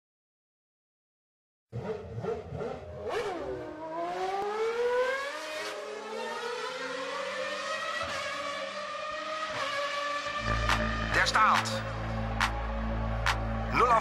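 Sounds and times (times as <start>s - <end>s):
engine revving: 1.7s - 14.0s.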